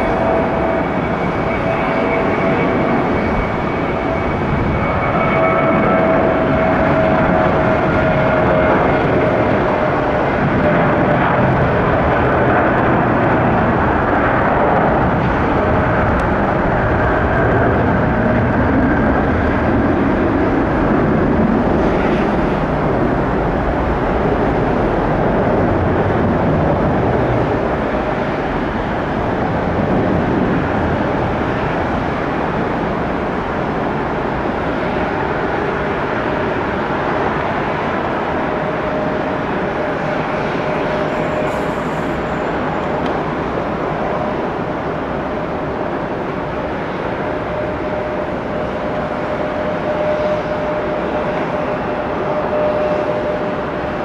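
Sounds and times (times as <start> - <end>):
jet engines at takeoff: 0.0 - 54.0.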